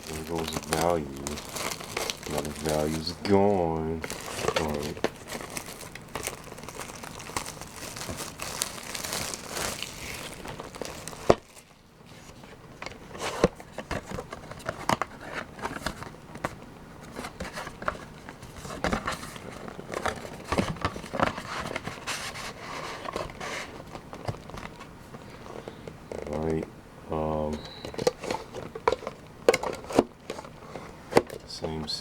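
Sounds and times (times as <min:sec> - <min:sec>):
foil wrappers crinkling: 0:00.0 - 0:26.5, 0:27.4 - 0:32.0.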